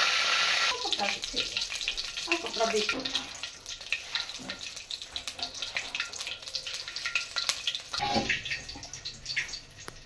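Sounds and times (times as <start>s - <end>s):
seeds sizzling in hot oil: 0.0s - 10.0s.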